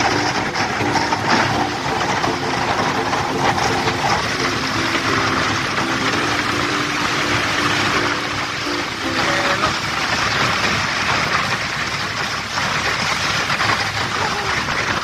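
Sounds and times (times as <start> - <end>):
boat engine running: 0.0 - 15.0
hull crackling through thin ice: 0.0 - 15.0.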